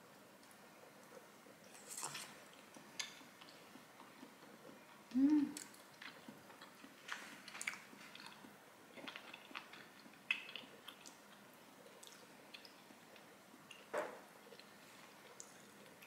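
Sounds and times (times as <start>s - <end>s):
soft chewing: 0.1s - 16.0s.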